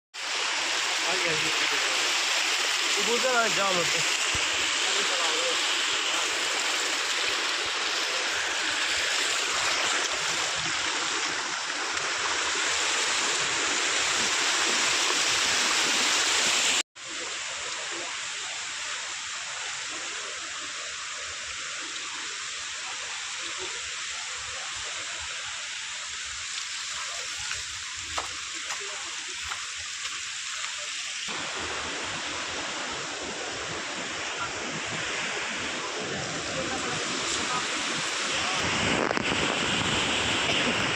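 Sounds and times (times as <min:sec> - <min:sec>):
floodwater rushing: 0:00.2 - 0:40.9.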